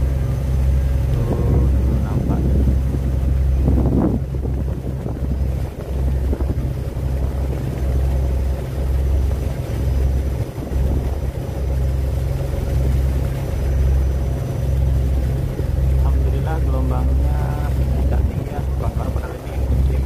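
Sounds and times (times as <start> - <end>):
low drone of ship engines: 0.0 - 20.0
wind buffeting the microphone: 0.0 - 20.0.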